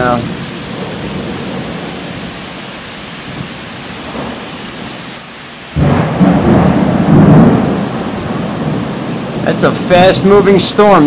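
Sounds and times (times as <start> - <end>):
thunder clap rumbling: 0.0 - 5.0, 5.7 - 11.0
heavy rain: 0.0 - 11.0.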